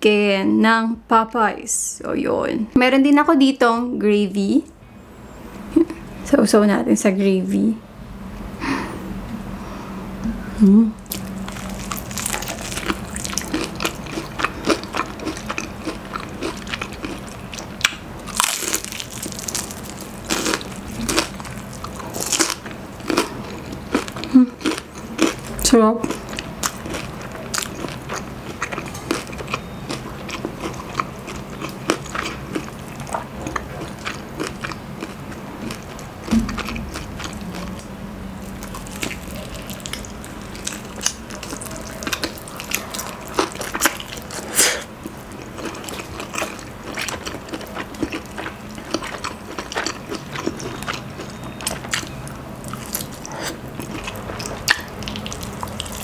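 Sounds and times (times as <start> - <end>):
chewing crispy fried chicken: 11.0 - 56.0.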